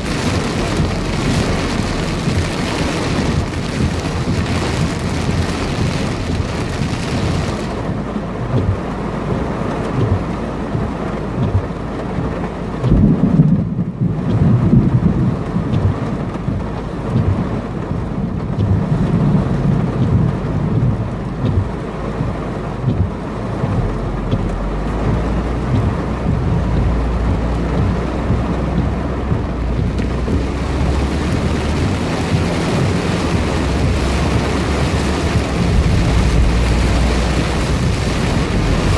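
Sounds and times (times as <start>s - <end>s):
heavy rain downpour: 0.0s - 38.9s
steady low hum: 0.0s - 38.9s
thunder rumbling: 0.0s - 38.9s.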